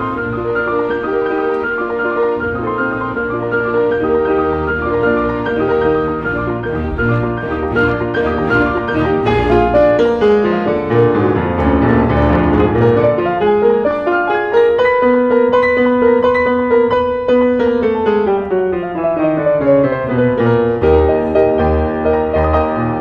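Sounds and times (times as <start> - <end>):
piano concerto with orchestra: 0.0 - 23.0.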